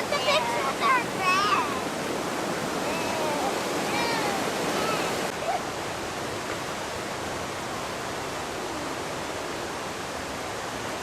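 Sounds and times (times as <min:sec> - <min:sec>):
fast-flowing water rushing: 0:00.0 - 0:11.0.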